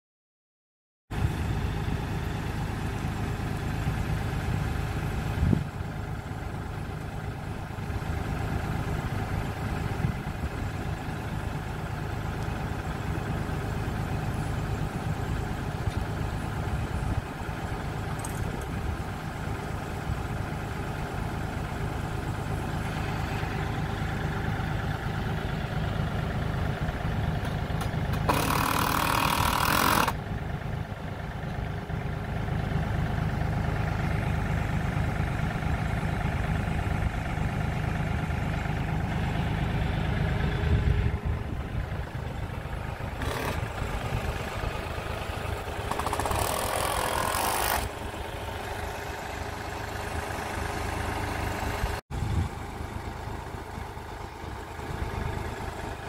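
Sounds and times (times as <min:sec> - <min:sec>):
tractor engine idling: 0:01.1 - 0:56.0.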